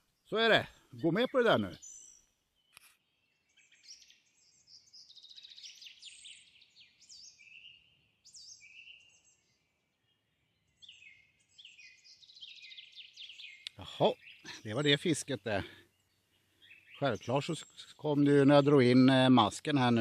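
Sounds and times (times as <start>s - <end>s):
faint songbird trills: 0.0s - 19.0s.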